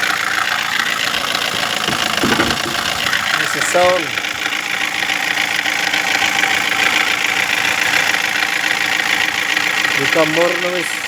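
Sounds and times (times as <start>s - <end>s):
car engine knocking: 0.0s - 11.0s.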